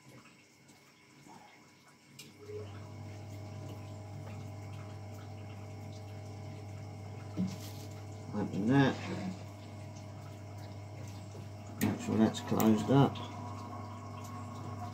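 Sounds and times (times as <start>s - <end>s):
electric pump humming: 2.1s - 14.9s.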